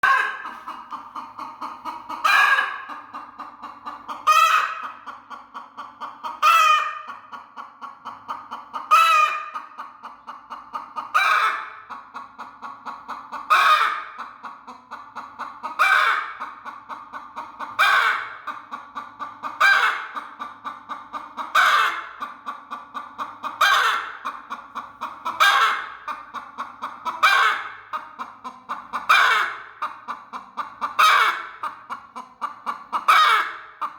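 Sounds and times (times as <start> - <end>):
hen clucking: 0.0 - 33.9.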